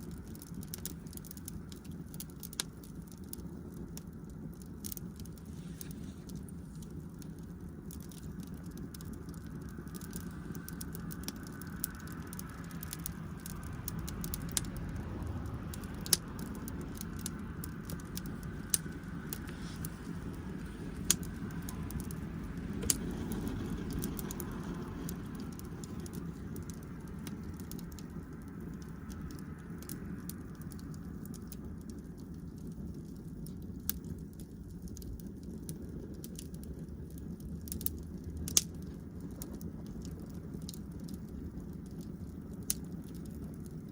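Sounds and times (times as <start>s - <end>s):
wood fire crackling and popping: 0.0s - 43.9s
low rumble: 5.2s - 42.6s.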